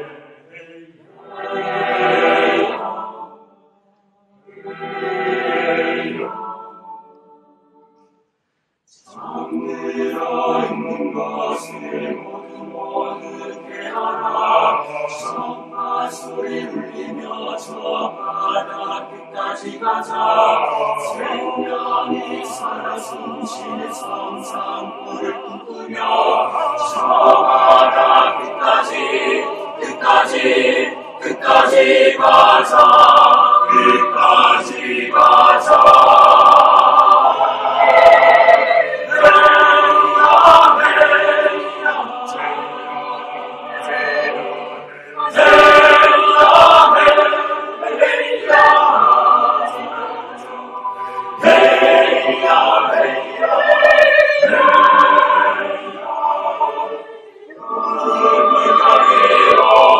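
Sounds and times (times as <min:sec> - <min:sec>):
string ensemble: 0:00.0 - 0:03.5, 0:04.4 - 0:07.2, 0:09.1 - 0:59.9
mixed choir singing: 0:00.0 - 0:08.2, 0:08.9 - 0:59.9.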